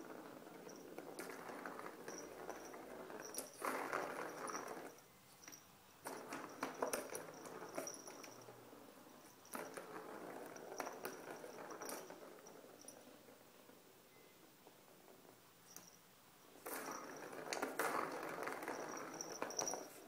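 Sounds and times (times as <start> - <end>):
plastic ball rolling in track: 0.0 - 15.9, 16.5 - 20.0.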